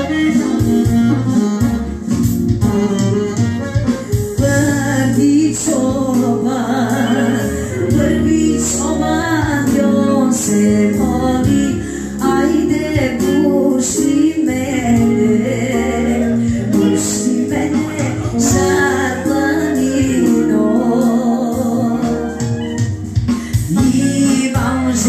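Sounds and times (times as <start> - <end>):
amplified instrumental backing: 0.0 - 25.0
woman singing into a microphone: 4.4 - 25.0.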